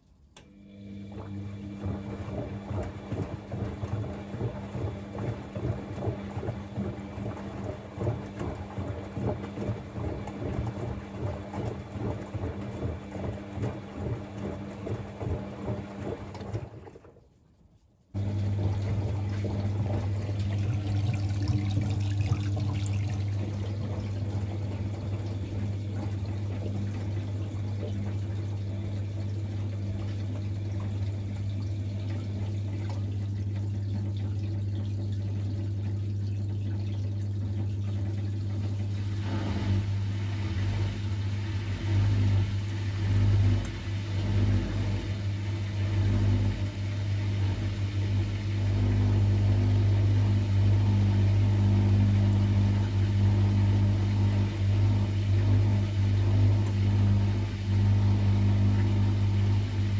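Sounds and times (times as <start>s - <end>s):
drain pump hum with running water: 0.0s - 59.9s
washing machine motor hum: 0.0s - 59.9s
washing machine water sloshing: 0.6s - 59.9s.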